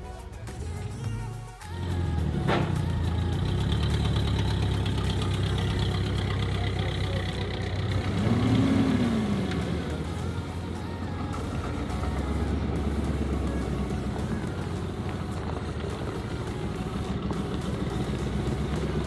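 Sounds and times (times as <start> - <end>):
car engine idling: 0.4 - 19.0.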